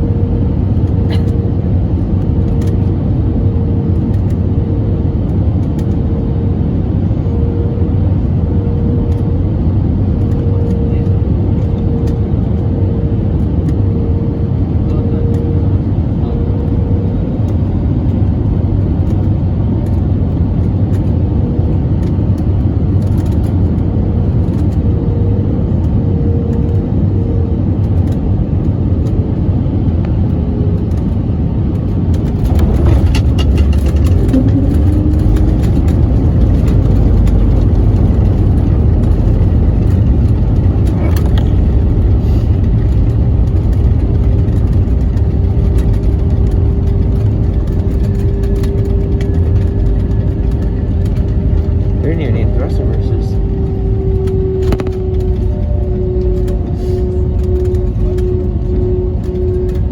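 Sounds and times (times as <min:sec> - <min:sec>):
aircraft engine and airflow noise: 0:00.0 - 0:59.9
deep rumble of wheels rolling: 0:00.0 - 0:59.9.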